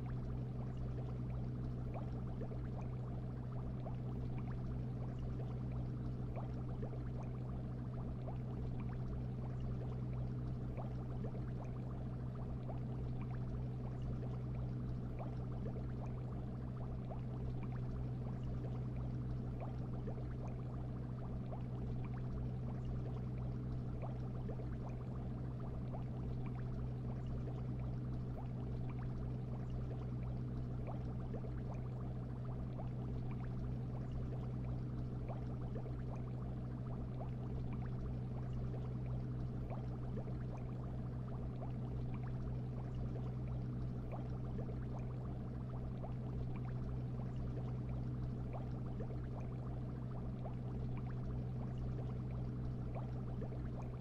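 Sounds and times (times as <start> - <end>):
water bubbling: 0.0 - 54.0.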